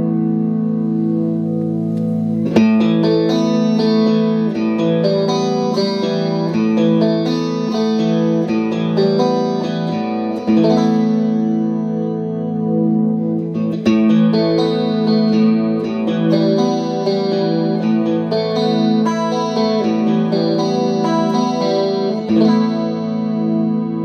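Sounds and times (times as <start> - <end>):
clean electric guitar with chorus: 0.0 - 24.0.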